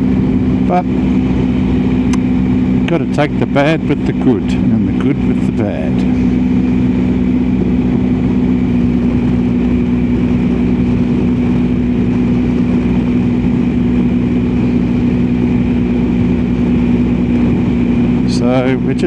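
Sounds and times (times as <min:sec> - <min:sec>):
motorcycle engine cruising: 0:00.0 - 0:19.0
wind and road noise: 0:00.0 - 0:19.0.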